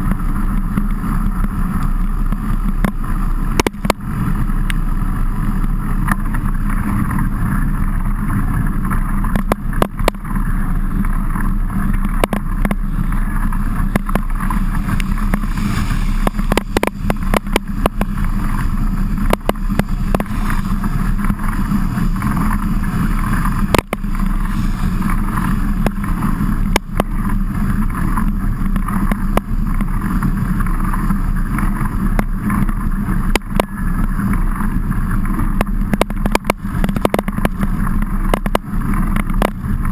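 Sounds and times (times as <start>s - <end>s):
bike riding rumble in heavy rain: 0.0s - 39.9s.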